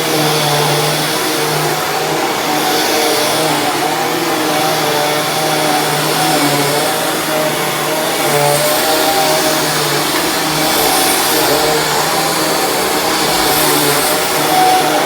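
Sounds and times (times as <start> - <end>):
vacuum cleaner running on carpet: 0.0 - 15.0.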